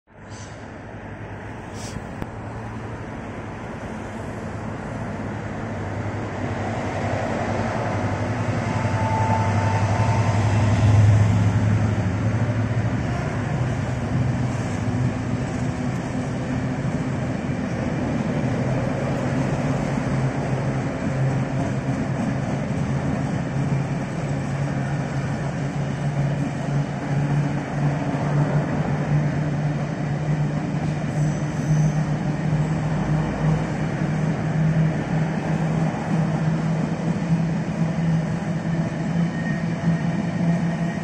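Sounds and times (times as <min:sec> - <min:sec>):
diesel locomotive engine: 0:00.1 - 0:41.0.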